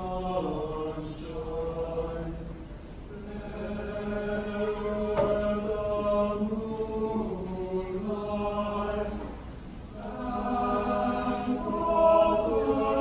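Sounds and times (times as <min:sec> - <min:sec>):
men's choir singing a hymn: 0:00.0 - 0:13.0.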